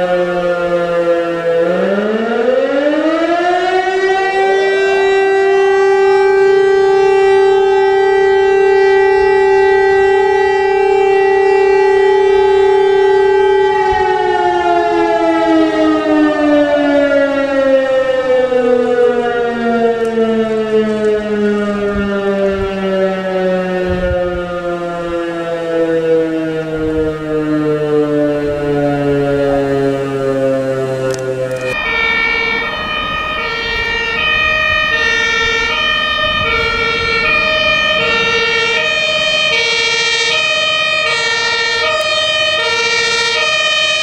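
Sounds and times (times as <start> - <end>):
fire siren howling: 0.0 - 44.0.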